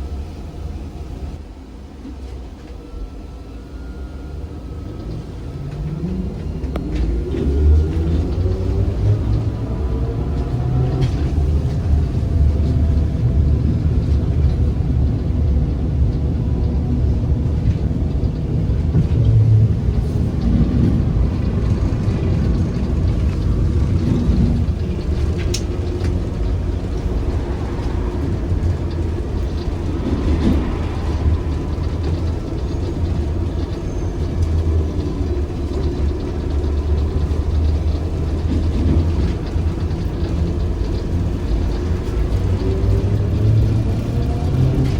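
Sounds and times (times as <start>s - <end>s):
trolleybus rumbling: 0.0s - 44.9s.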